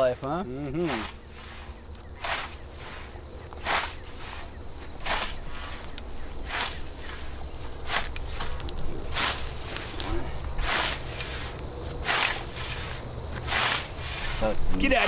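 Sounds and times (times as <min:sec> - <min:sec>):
scythe swishing through grass: 0:00.8 - 0:05.8, 0:06.4 - 0:14.4.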